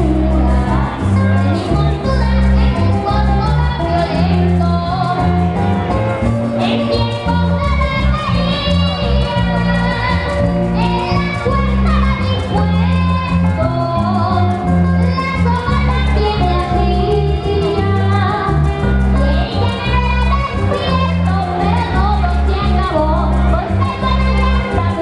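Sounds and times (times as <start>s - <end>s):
boy singing into microphone: 0.0s - 5.6s, 6.6s - 25.0s
string band playing: 0.0s - 25.0s.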